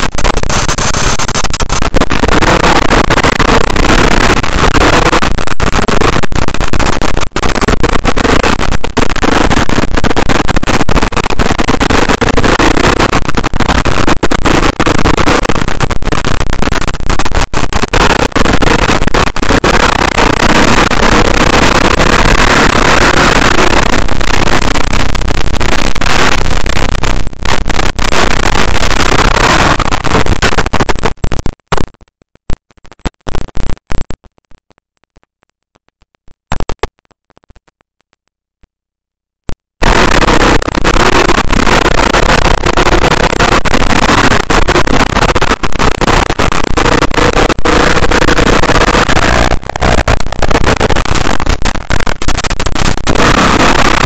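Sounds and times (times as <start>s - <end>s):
short crackles: 0.0s - 38.3s, 39.5s - 54.0s.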